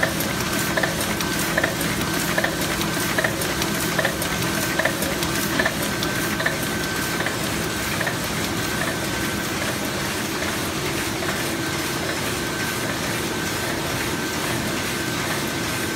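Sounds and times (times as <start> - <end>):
printing press whirring: 0.0 - 15.9.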